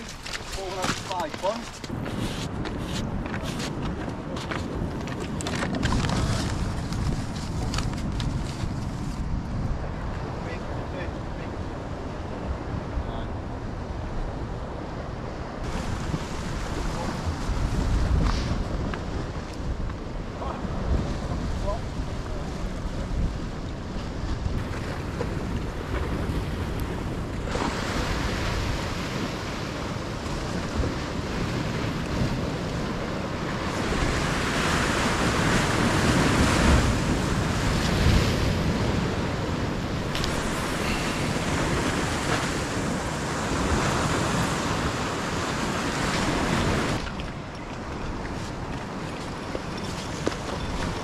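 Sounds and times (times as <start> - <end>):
sea waves breaking over rocks: 0.0 - 51.0
wind rumbling on microphone: 0.0 - 51.0.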